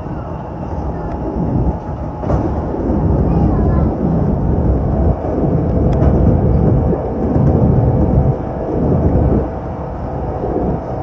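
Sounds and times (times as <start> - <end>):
electric train rumbling on rails: 0.0 - 11.0.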